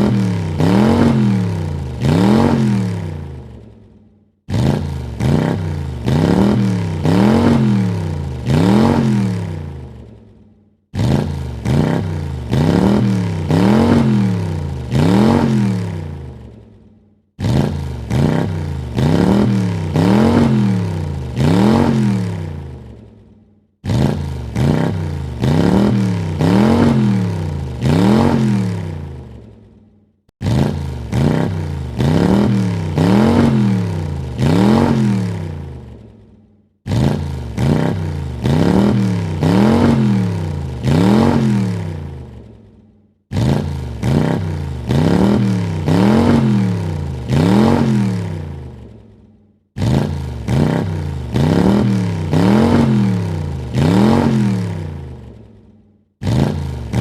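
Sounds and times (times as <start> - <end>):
car engine revving: 0.0 - 3.7, 4.5 - 10.3, 10.9 - 16.6, 17.4 - 23.2, 23.8 - 29.6, 30.4 - 36.2, 36.9 - 42.6, 43.3 - 48.9, 49.8 - 55.5, 56.2 - 57.0.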